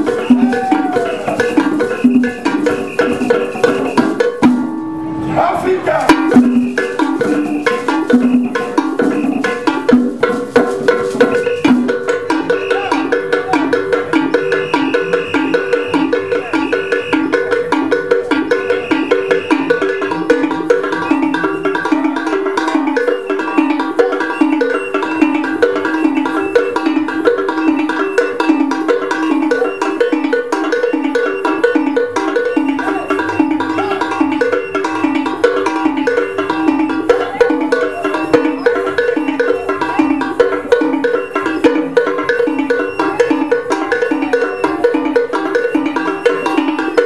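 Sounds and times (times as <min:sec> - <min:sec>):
drum strokes: 0:00.0 - 0:47.0
wooden mallet percussion melody: 0:00.0 - 0:47.0.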